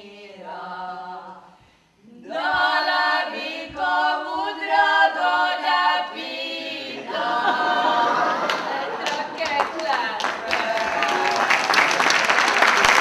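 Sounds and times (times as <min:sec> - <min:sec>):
women singing unaccompanied: 0:00.0 - 0:11.0.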